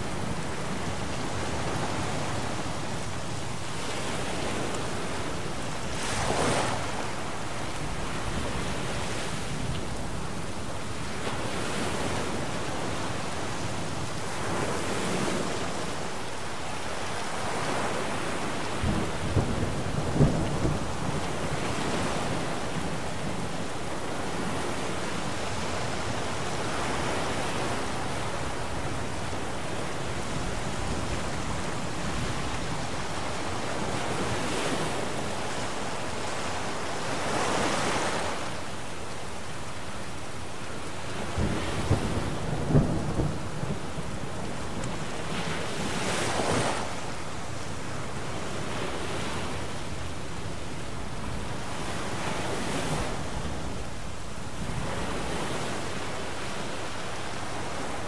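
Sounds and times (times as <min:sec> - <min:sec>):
rain: 0:00.0 - 0:58.0
waves breaking: 0:00.0 - 0:58.0
wind: 0:00.0 - 0:58.0.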